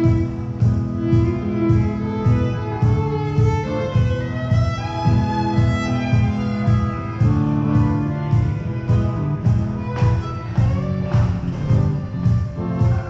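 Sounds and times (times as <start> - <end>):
acoustic guitar strumming: 0.0 - 13.0
fiddle melody: 0.0 - 13.0.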